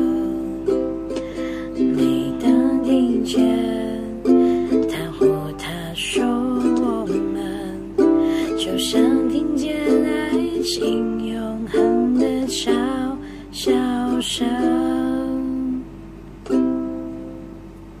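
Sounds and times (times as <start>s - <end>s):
ukulele strumming chords: 0.0s - 18.0s.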